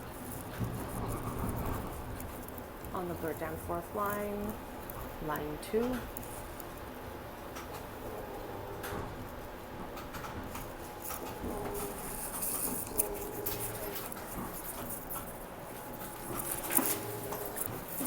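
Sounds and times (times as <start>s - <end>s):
streetcar rattling: 0.0s - 18.0s.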